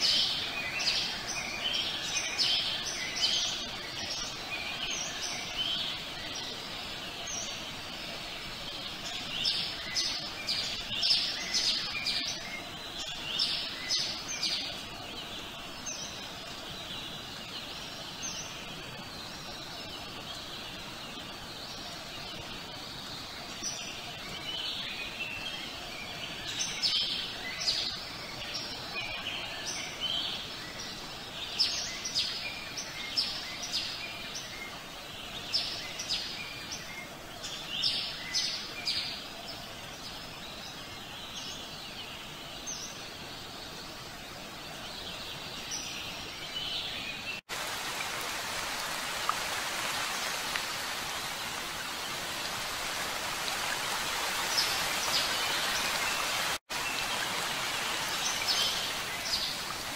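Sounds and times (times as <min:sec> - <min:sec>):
steady rain: 0:00.0 - 0:40.2, 0:47.4 - 0:59.9
birds chirping: 0:00.0 - 0:59.9.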